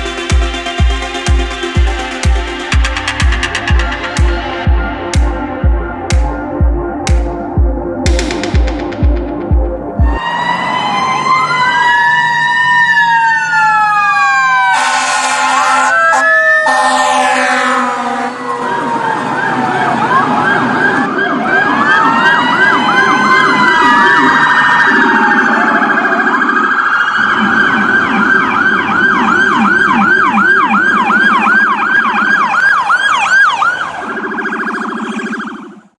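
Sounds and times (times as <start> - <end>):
emergency vehicle siren: 0.0 - 35.9.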